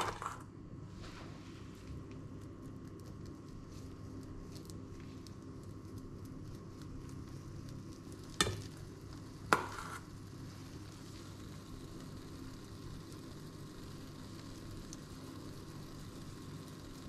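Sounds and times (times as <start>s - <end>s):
patty sizzling in hot oil: 1.1s - 17.0s.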